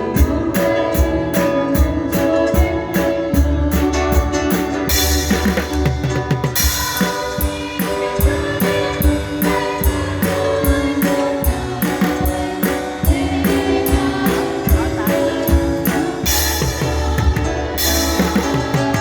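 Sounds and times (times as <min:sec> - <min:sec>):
person singing: 0:00.0 - 0:05.8, 0:06.5 - 0:19.0
band playing: 0:00.0 - 0:19.0.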